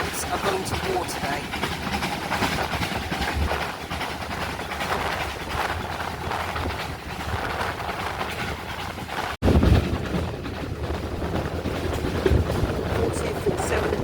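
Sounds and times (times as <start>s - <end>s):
steam train rumbling: 0.0s - 14.0s.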